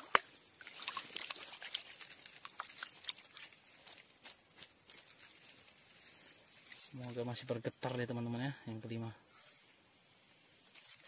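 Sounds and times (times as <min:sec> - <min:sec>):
high-pitched insect drone: 0:00.0 - 0:11.0
faint ticks and rustles: 0:00.1 - 0:11.0.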